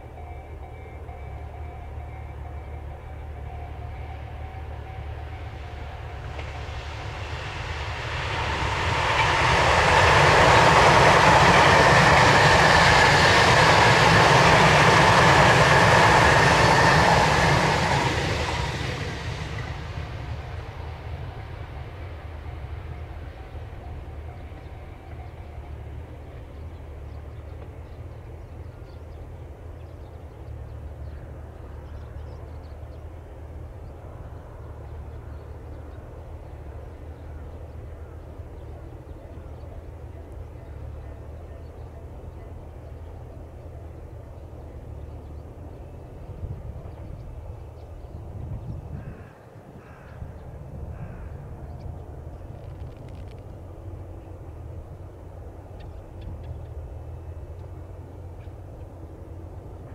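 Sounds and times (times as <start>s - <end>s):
passing train: 0.0s - 59.9s.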